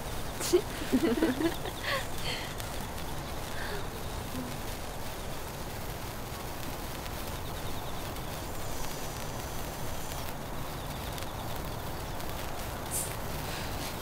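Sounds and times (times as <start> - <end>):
sparklers fizzing: 0.0 - 14.0.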